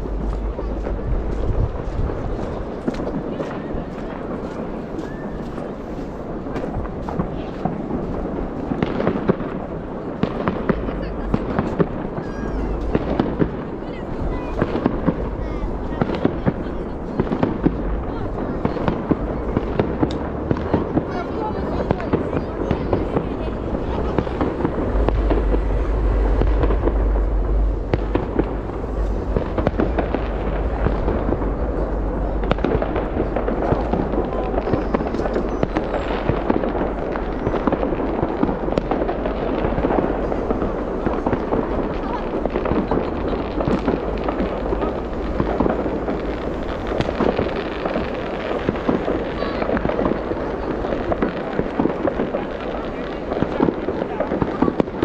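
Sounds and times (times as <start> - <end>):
low rumble: 0.0 - 54.0
fireworks crackling and banging: 0.0 - 55.0.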